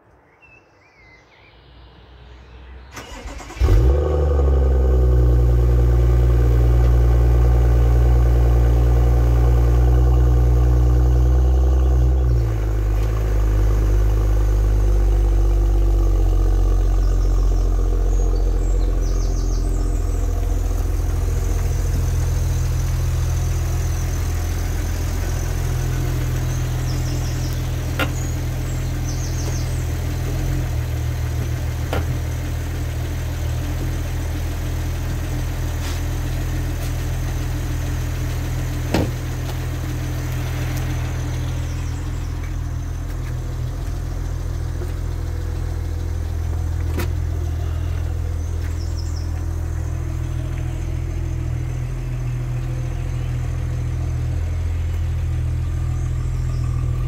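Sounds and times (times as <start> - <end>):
car engine starting and idling: 1.6 - 57.0.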